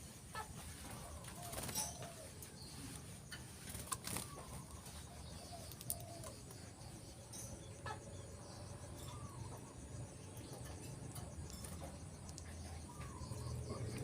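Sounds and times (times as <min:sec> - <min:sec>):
soft low bird calls: 0:00.0 - 0:14.0.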